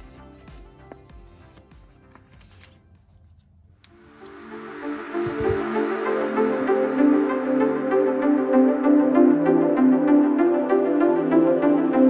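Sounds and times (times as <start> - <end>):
background music with chords: 0.0 - 2.7, 3.9 - 12.0.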